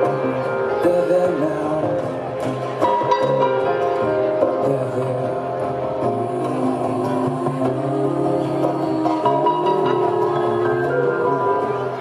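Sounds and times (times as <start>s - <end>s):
cello: 0.0s - 12.0s
live band through outdoor speakers: 0.0s - 12.0s
strummed acoustic guitar: 0.0s - 12.0s.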